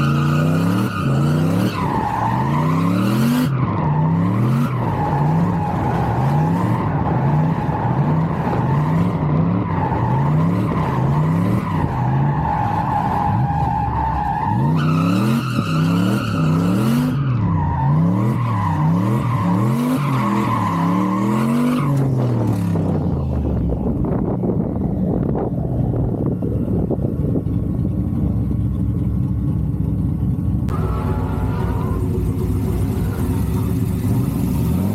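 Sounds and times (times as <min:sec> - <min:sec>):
tires squealing: 0:00.0 - 0:28.6, 0:30.7 - 0:34.9
truck engine revving: 0:00.0 - 0:29.7, 0:30.4 - 0:34.9.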